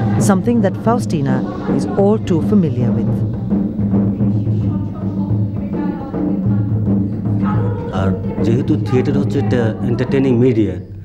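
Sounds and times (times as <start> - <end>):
music with pulsing drum beat: 0.0 - 10.9.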